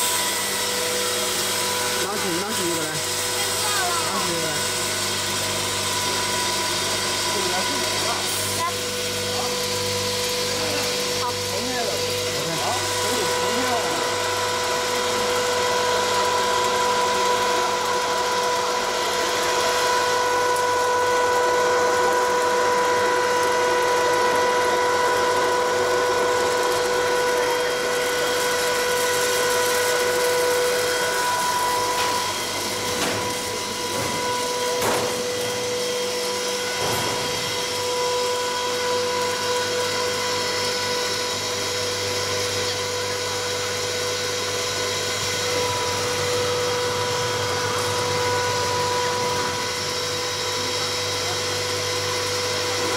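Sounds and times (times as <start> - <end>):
popcorn machine whirring: 0.0 - 52.9.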